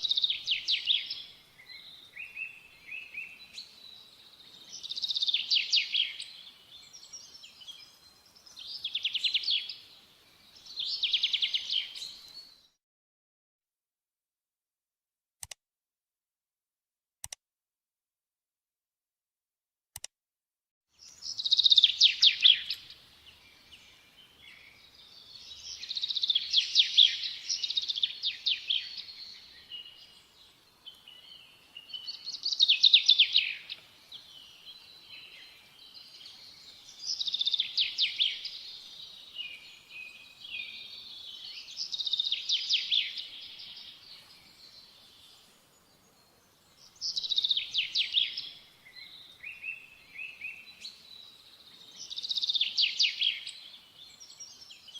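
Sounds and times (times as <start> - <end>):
small songbird singing: 0.0 - 12.8, 20.9 - 54.9.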